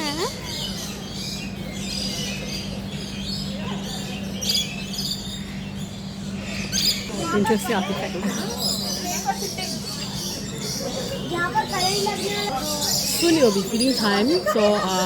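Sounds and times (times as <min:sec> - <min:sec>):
parrots chirping: 0:00.0 - 0:15.0
steady low hum: 0:00.0 - 0:15.0.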